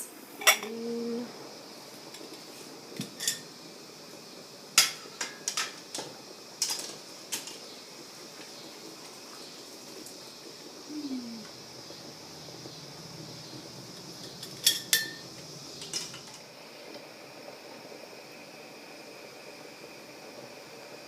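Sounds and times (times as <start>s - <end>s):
faint hiss: 0.0s - 21.0s.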